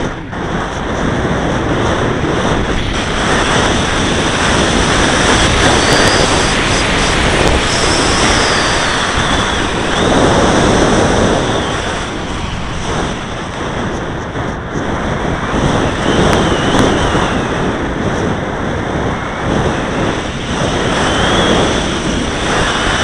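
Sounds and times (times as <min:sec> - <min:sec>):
model plane motor whine: 0:00.0 - 0:23.0
wind rushing over microphone: 0:00.0 - 0:23.0.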